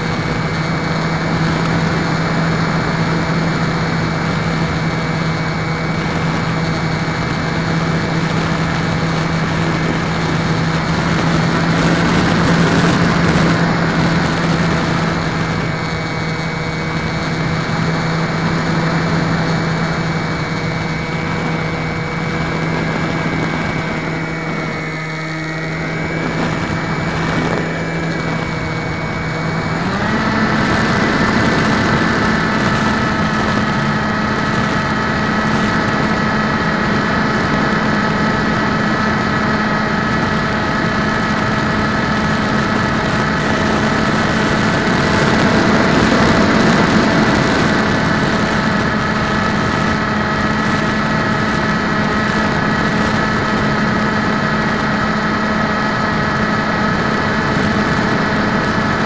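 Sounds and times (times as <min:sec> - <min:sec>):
airflow rush: 0:00.0 - 0:59.0
model plane motor whine: 0:00.0 - 0:59.0.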